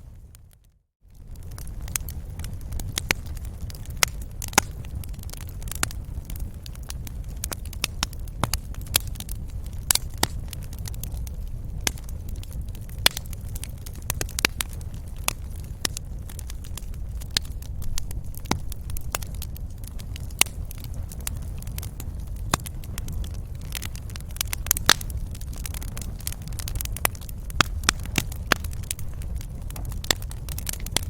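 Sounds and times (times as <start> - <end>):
fire crackling in fireplace: 0.0 - 31.0.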